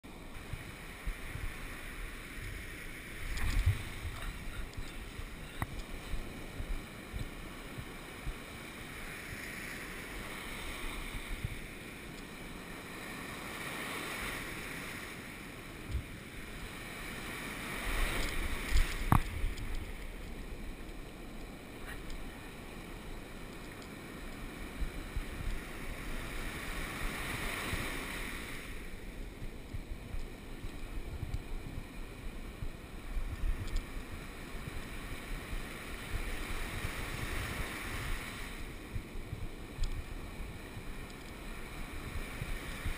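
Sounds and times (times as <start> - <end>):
wind rumbling on microphone: 0.0 - 42.9
ocean surf breaking: 0.1 - 42.9.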